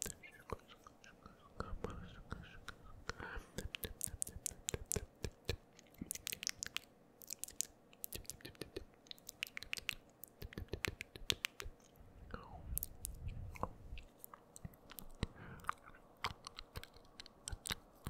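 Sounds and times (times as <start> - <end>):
wet mouth clicks: 0.0 - 18.0.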